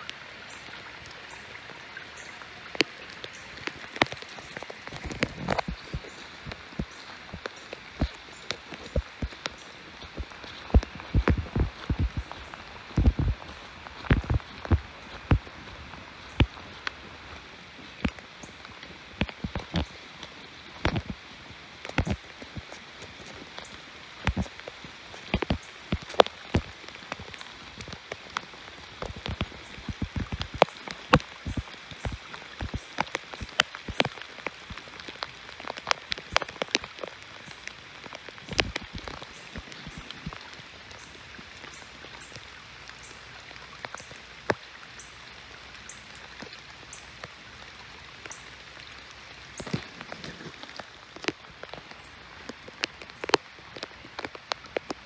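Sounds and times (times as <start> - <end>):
light rain hiss: 0.0 - 55.0
raindrops tapping: 0.0 - 55.0.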